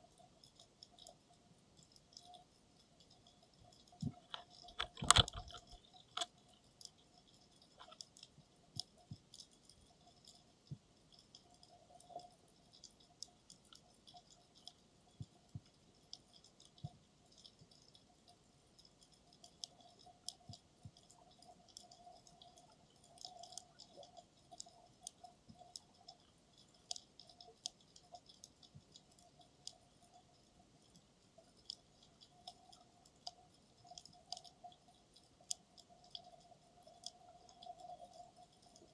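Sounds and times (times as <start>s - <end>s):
underwater clicks and crackles: 0.0s - 38.9s.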